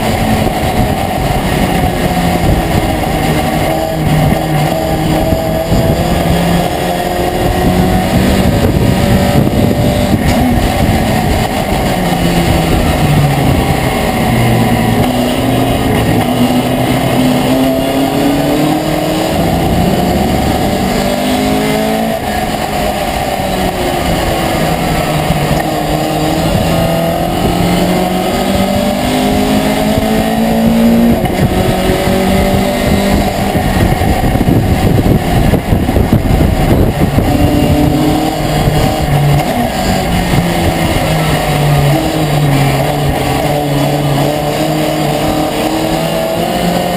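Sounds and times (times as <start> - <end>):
road and wind noise: 0.0 - 46.9
truck engine revving: 0.0 - 46.9.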